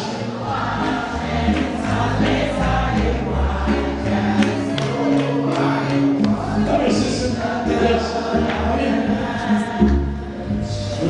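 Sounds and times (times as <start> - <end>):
live band playing: 0.0 - 11.0
voices singing together: 0.0 - 11.0
bass line: 0.4 - 11.0.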